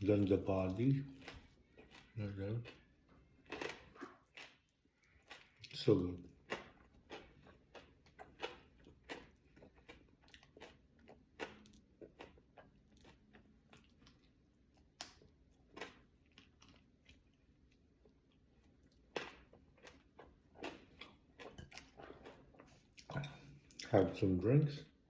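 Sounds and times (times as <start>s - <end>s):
chewing fish: 0.0s - 24.1s.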